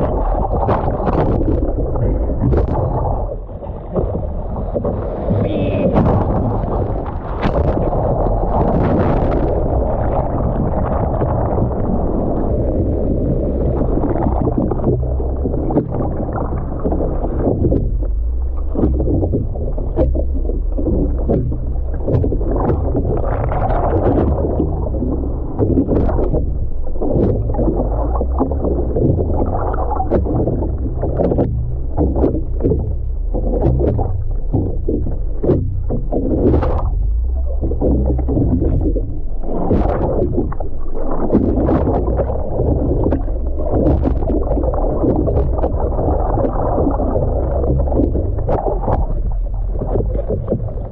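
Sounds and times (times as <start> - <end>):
seawater splashing: 0.0 - 50.9
steady low rumble: 0.0 - 50.9.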